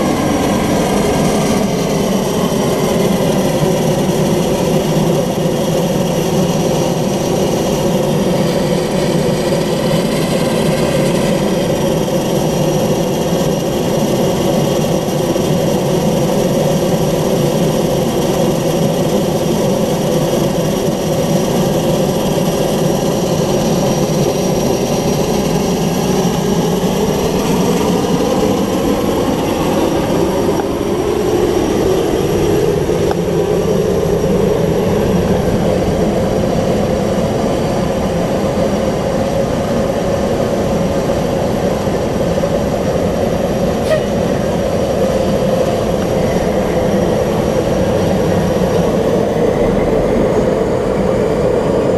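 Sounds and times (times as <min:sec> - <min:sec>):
turboprop engine with turbine whine: 0:00.0 - 0:51.9.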